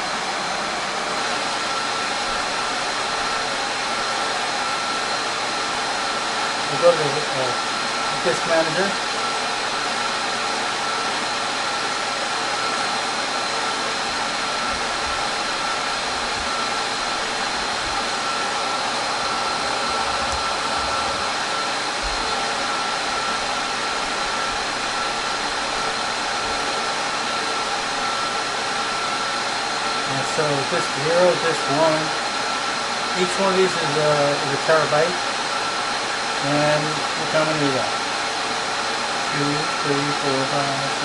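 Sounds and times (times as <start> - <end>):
cooling fans rushing air: 0.0 - 41.0
high fan whine: 0.0 - 41.0.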